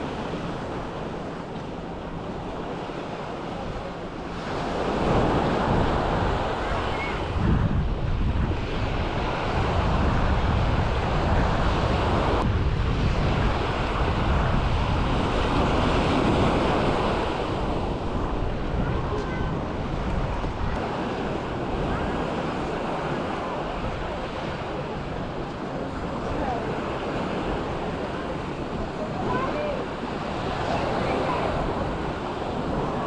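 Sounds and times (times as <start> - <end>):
sea waves washing onto beach: 0.0 - 33.0
wind buffeting microphone: 0.0 - 33.0.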